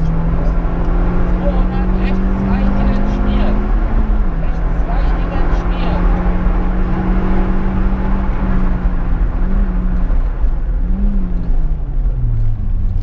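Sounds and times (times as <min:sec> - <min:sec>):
car engine pulling hard: 0:00.0 - 0:13.0
tyre and road noise: 0:00.0 - 0:13.0.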